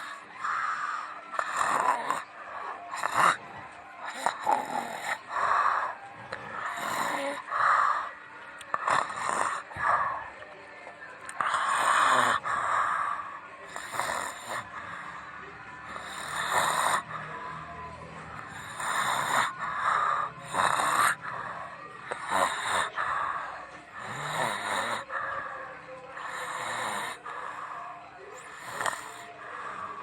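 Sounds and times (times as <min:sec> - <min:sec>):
person snoring: 0:00.0 - 0:03.4, 0:04.0 - 0:10.2, 0:11.3 - 0:30.0.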